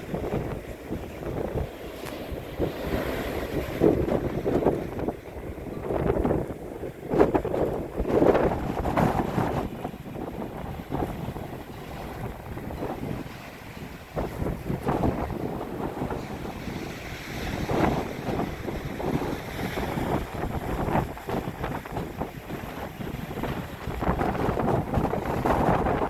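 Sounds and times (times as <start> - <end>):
heavy surf breaking on shore: 0.0 - 26.0
wind buffeting microphone: 0.0 - 26.0.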